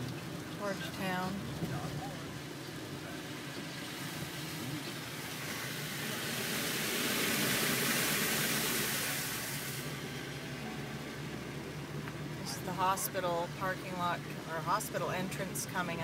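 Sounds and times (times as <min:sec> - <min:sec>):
tyres hissing on wet road: 0:00.0 - 0:14.7
car engine and road hum: 0:00.0 - 0:16.0.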